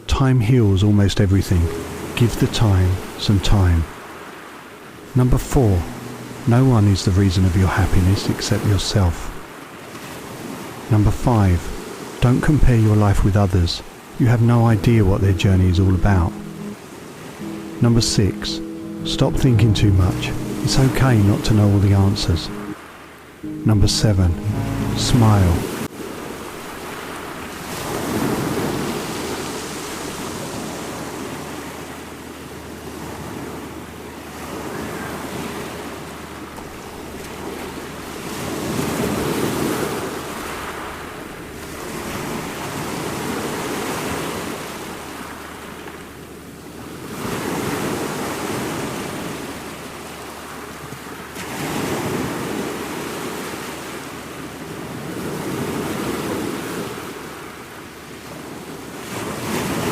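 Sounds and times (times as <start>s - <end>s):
wind: 0.0s - 21.9s, 22.5s - 23.7s, 24.4s - 59.9s
waves breaking: 0.8s - 59.9s.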